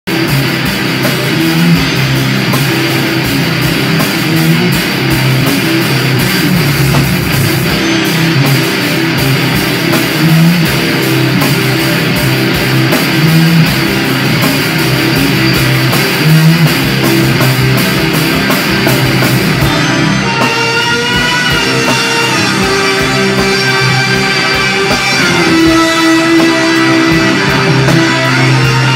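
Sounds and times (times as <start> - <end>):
distorted electric guitar: 0.0 - 28.9
drum kit: 0.0 - 28.9.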